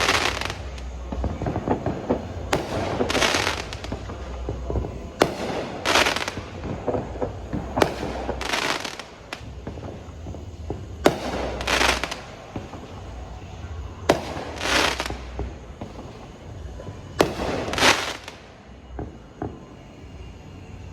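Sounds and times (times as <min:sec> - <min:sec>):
firework bangs: 0:00.0 - 0:20.9
firework crackle: 0:00.0 - 0:20.9.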